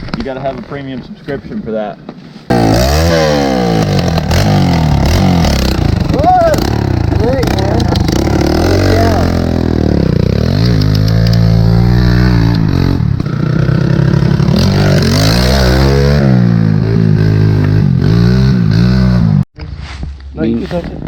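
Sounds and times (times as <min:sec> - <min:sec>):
off-road vehicle engine revving: 0:02.5 - 0:19.4.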